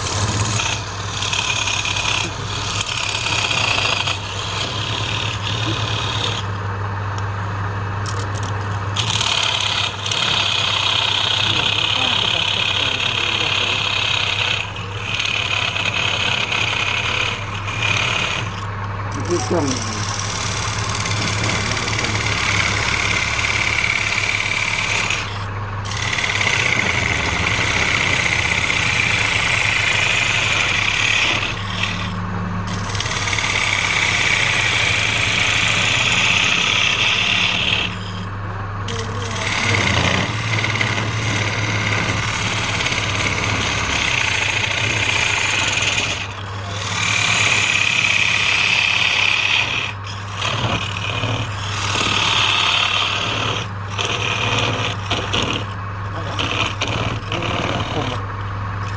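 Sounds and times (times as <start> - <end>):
lathe tool scraping wood: 0.0 - 58.9
wood lathe humming: 0.0 - 58.9.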